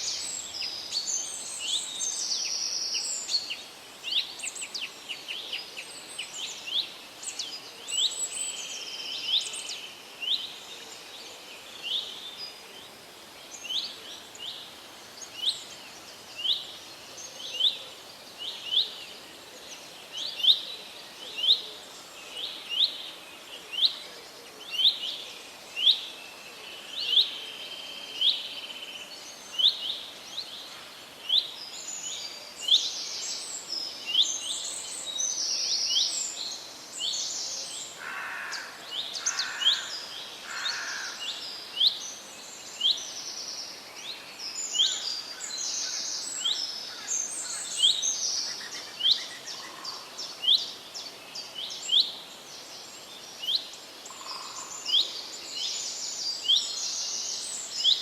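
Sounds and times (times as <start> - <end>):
faint forest background hiss: 0.0 - 58.0.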